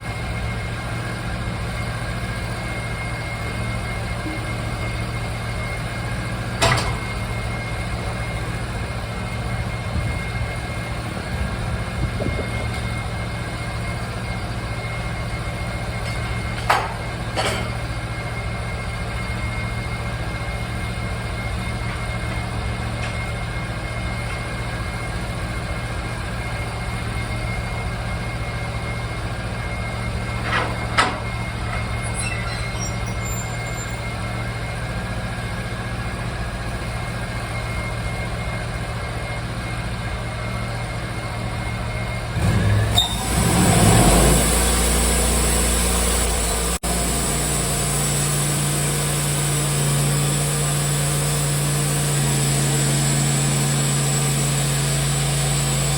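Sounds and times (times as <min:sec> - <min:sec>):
band sawmill engine drone: 0:00.0 - 0:55.9.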